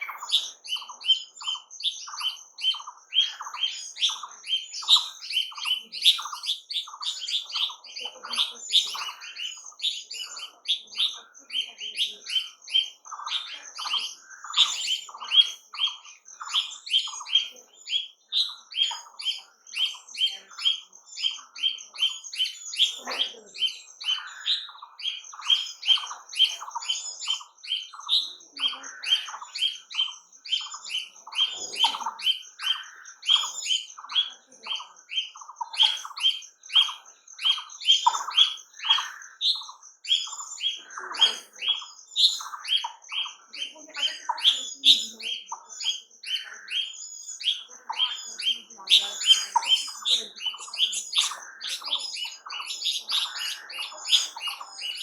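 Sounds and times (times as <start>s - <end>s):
birds chirping and squawking: 0.0s - 55.0s.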